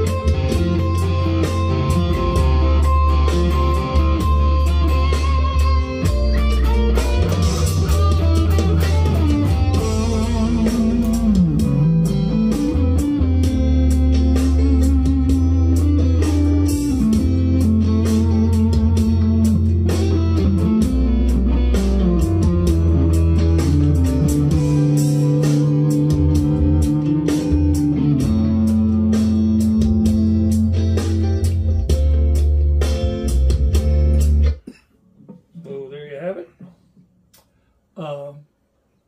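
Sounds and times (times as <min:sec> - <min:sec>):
electric guitar lead lines: 0:00.0 - 0:34.7.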